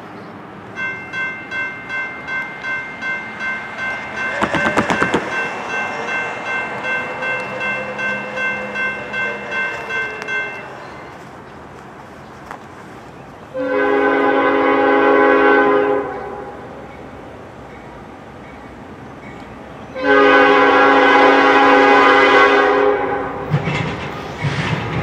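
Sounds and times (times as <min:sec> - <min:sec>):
crossing warning bell ringing: 0:00.7 - 0:11.3, 0:13.6 - 0:24.5.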